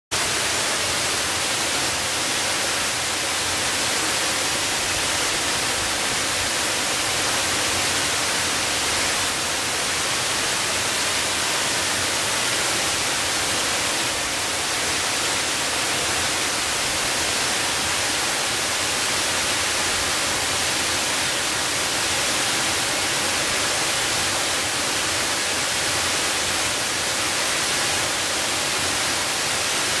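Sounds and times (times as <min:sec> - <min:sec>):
waterfall rushing hiss: 0:00.2 - 0:30.0.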